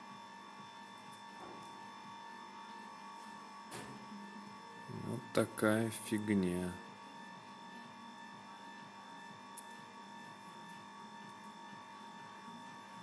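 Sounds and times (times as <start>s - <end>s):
faint electric hum with whine: 0.0s - 13.0s.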